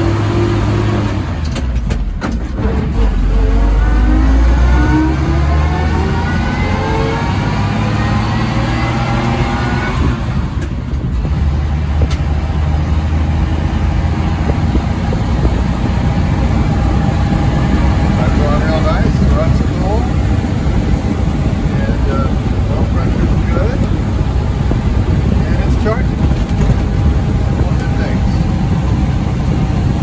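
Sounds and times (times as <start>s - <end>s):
truck engine driving: 0.0s - 30.0s.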